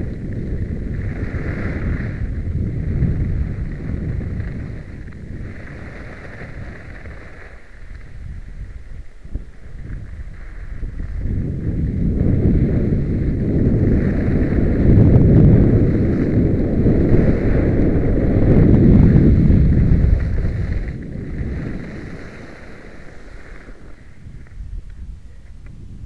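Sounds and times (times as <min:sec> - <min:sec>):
skis scraping on snow: 0:00.0 - 0:26.0
wind buffeting microphone: 0:00.0 - 0:26.0.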